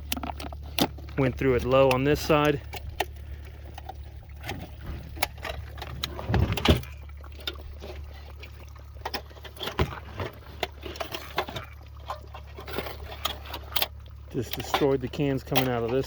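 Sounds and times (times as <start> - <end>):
cans and cardboard handled: 0.0 - 13.8
steady low hum: 0.0 - 16.0.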